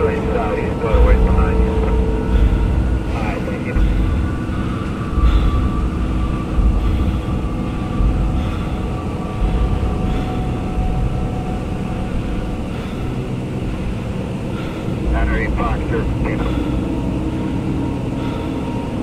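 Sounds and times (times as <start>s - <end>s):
jet engine whine: 0.0s - 19.0s
low bumps: 0.0s - 19.0s.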